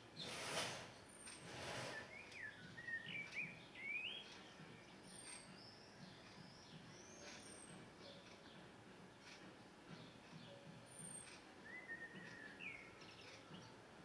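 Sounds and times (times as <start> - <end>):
small songbirds chirping: 1.1 - 14.0.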